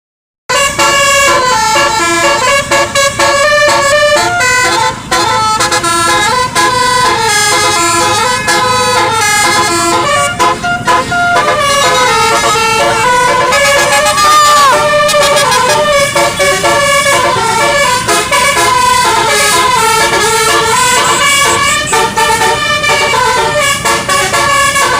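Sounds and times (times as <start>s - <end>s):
bus horn playing a fast tune: 0.5s - 24.9s.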